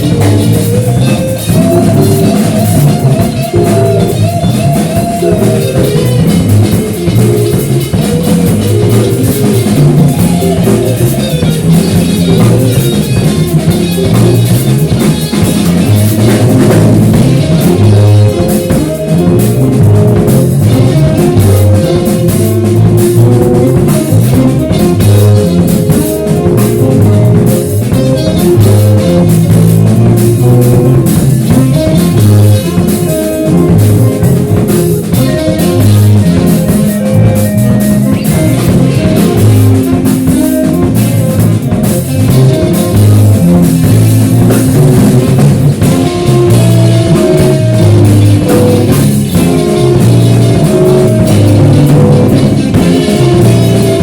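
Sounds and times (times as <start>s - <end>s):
bass guitar: 0.0s - 54.0s
distorted electric guitars: 0.0s - 54.0s
drum kit beat: 0.0s - 54.0s.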